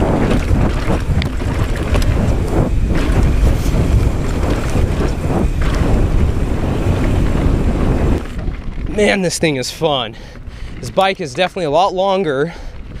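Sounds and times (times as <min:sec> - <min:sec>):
bike clicks and rattles: 0:00.0 - 0:09.6, 0:10.2 - 0:13.0
mountain bike rolling on dirt: 0:00.0 - 0:13.0
wind buffeting microphone: 0:00.0 - 0:13.0.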